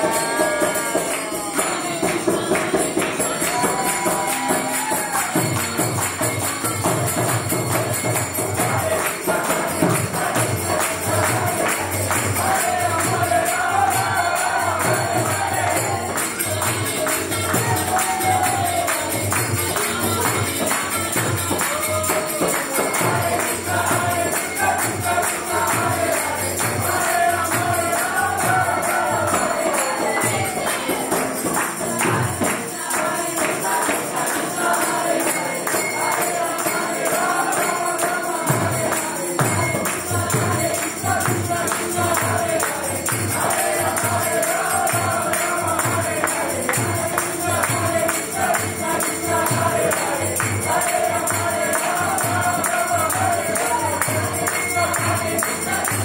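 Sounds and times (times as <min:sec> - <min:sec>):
group chanting: 0:00.0 - 0:56.0
hand drum beat: 0:00.0 - 0:56.0
harmonium: 0:00.0 - 0:56.0
jingling hand percussion: 0:00.0 - 0:56.0.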